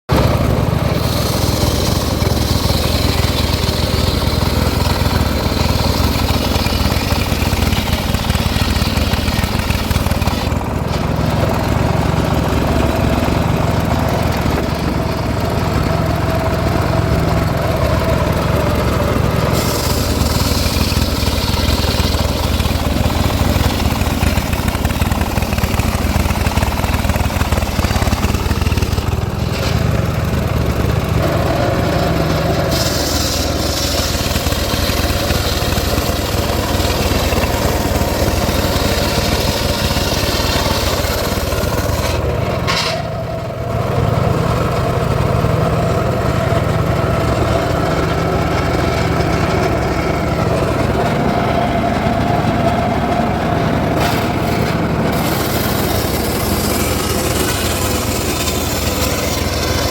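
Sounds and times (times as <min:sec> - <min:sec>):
circular saw cutting wood: 0:00.1 - 0:59.9.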